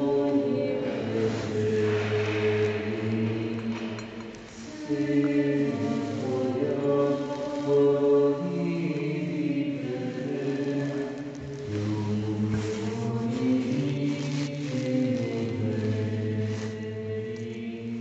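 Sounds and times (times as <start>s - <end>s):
voices singing a hymn: 0.0s - 18.0s.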